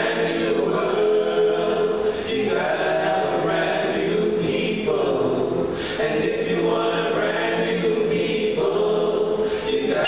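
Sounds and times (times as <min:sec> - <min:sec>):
men singing in close harmony: 0:00.0 - 0:10.0.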